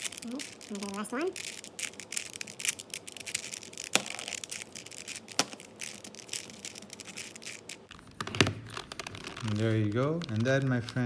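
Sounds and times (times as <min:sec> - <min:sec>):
puzzle cube clicking: 0:00.0 - 0:11.0.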